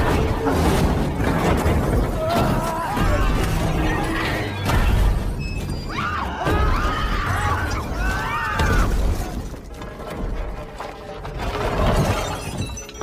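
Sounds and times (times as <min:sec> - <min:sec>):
dramatic film score: 0:00.0 - 0:13.0
railway carriages crashing: 0:00.0 - 0:13.0.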